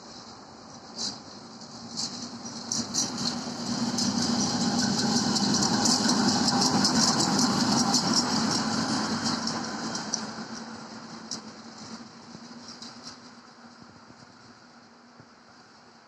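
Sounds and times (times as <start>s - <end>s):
diesel locomotive engine running: 0.0s - 16.0s
wheels clicking on rails: 0.0s - 16.0s.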